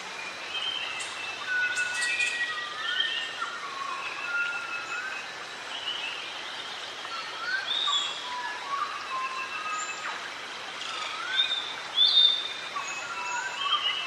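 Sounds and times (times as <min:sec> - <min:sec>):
steady background hiss: 0:00.0 - 0:14.0
wild birds singing: 0:00.0 - 0:14.0.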